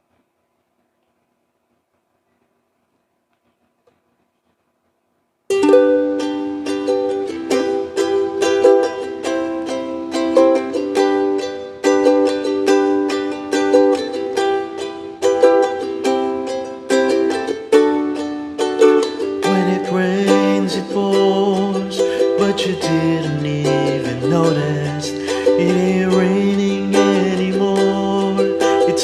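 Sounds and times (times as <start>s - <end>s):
ukulele strumming chords: 5.5s - 29.0s.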